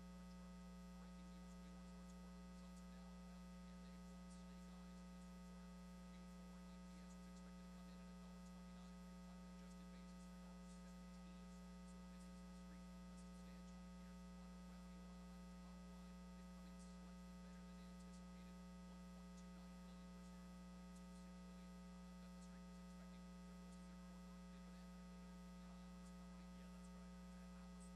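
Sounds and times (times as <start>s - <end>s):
electrical mains hum: 0.0s - 27.9s.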